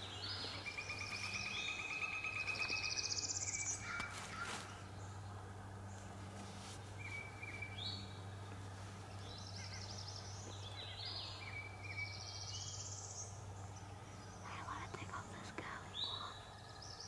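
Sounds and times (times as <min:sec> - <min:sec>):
songbirds chirping and trilling: 0:00.0 - 0:17.0
steady low hum: 0:00.0 - 0:17.0.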